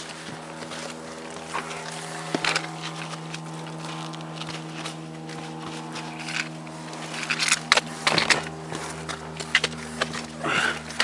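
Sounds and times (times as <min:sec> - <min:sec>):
footsteps scuffing on gravel: 0:00.0 - 0:11.0
steady low hum: 0:00.0 - 0:11.0.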